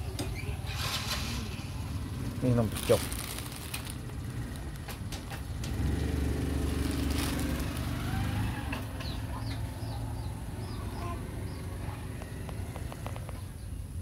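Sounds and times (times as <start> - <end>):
vehicle engine passing: 0.6 - 13.5.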